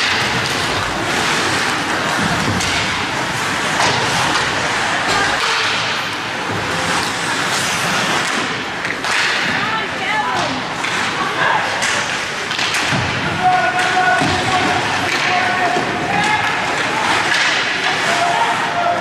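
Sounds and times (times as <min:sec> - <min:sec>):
hockey sticks knocking puck: 0:00.0 - 0:19.0
skates scraping on ice: 0:00.0 - 0:19.0.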